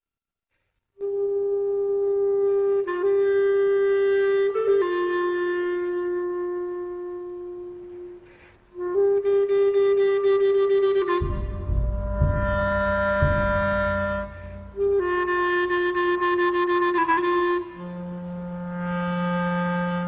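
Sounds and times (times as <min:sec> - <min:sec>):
solo woodwind slow melody: 0:01.0 - 0:20.0.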